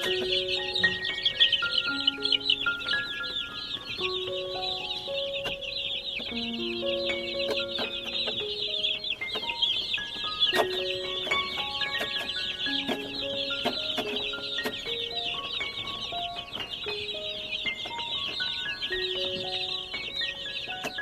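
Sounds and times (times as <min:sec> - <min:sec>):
baby chicks peeping: 0:00.0 - 0:21.0
background music with held notes: 0:00.0 - 0:21.0.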